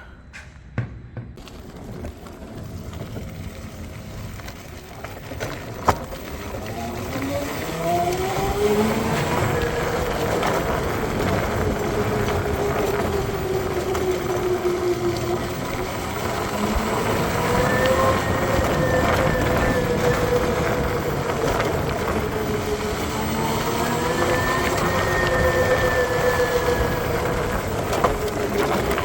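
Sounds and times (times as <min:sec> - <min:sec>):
road and wind noise: 0:00.8 - 0:29.0
electric scooter drivetrain whine: 0:01.4 - 0:29.0.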